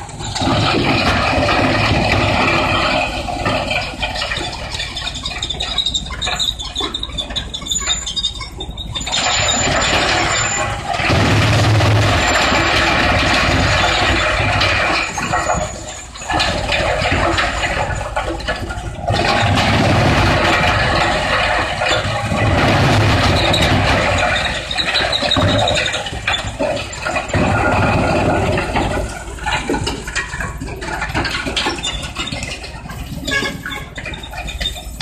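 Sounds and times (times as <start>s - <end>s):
wood crusher grinding wood: 0.0s - 8.1s, 9.0s - 35.0s.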